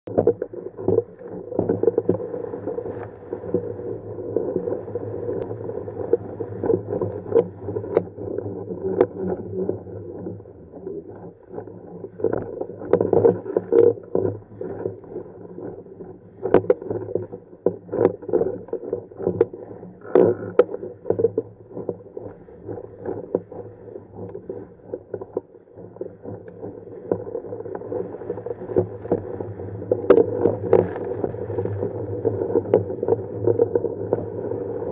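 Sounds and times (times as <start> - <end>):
water rushing along hull: 0.1 - 34.9
waves slapping boat: 0.1 - 34.9.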